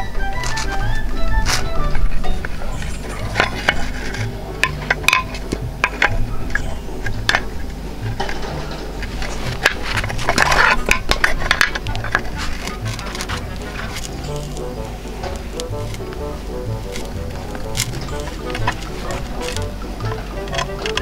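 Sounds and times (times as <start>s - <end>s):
metal clinking and scraping on bar: 2.3s - 21.0s.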